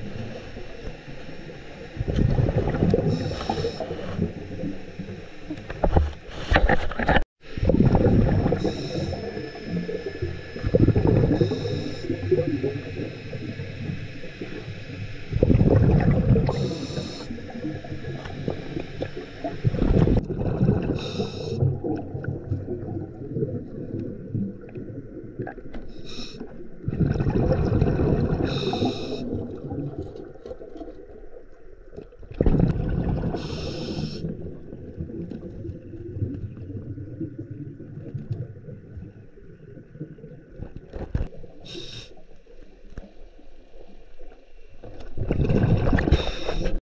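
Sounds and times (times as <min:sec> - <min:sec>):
low steady underwater rumble: 0:00.0 - 0:46.8
scuba diver exhaling bubbles: 0:02.0 - 0:05.1, 0:07.5 - 0:30.8, 0:32.2 - 0:42.2, 0:45.0 - 0:46.8.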